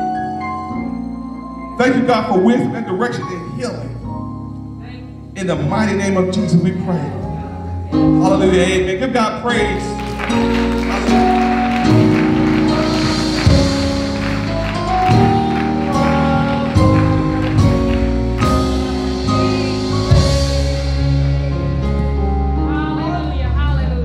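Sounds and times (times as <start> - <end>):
slow instrumental worship music: 0.0 - 24.0.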